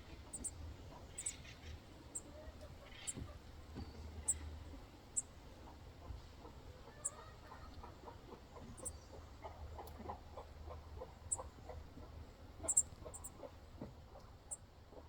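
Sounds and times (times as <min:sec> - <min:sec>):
chickens clucking: 0:00.0 - 0:04.6, 0:05.5 - 0:15.0.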